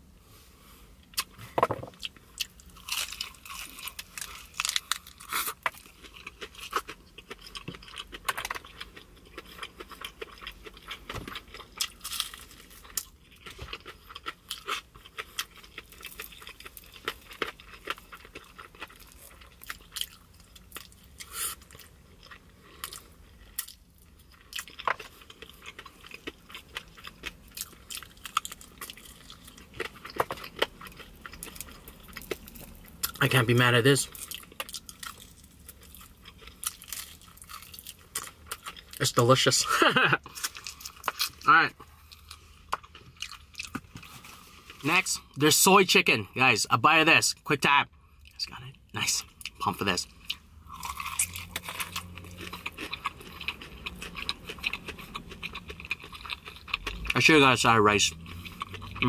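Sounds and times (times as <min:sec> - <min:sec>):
person chewing: 0:01.0 - 0:33.3, 0:34.0 - 0:45.4, 0:48.0 - 0:59.0
crunching fried chicken: 0:01.1 - 0:45.9, 0:48.2 - 0:59.0.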